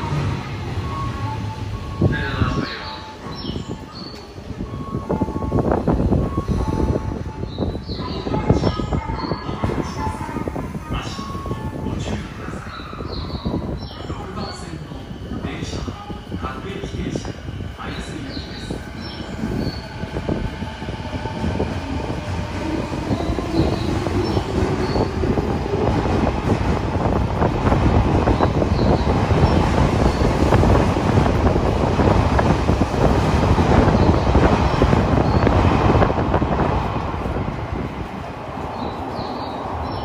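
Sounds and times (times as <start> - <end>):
subway train rumbling: 0.0 - 40.0.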